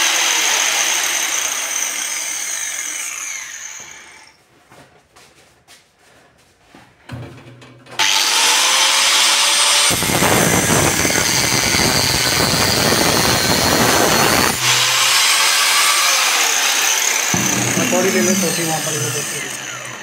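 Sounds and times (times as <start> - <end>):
angle grinder cutting steel: 0.0 - 4.4, 8.0 - 20.0.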